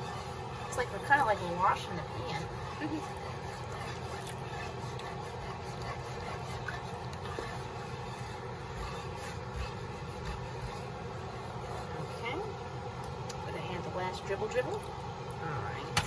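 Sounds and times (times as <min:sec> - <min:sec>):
gravy bubbling in skillet: 0:00.0 - 0:13.5.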